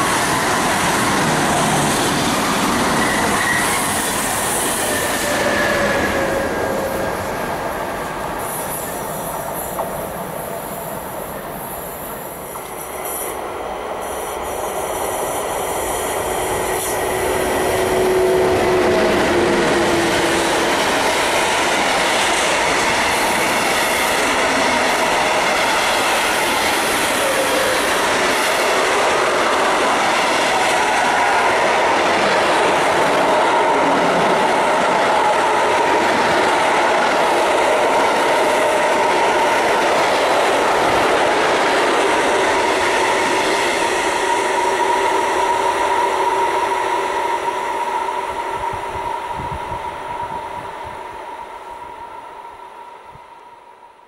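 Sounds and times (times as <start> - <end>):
train wheels rumbling on rails: 0.0 - 52.2.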